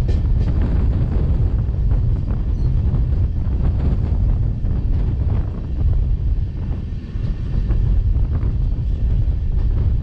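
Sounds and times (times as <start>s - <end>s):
train rumbling on track: 0.0s - 10.0s
wind buffeting microphone: 0.0s - 10.0s.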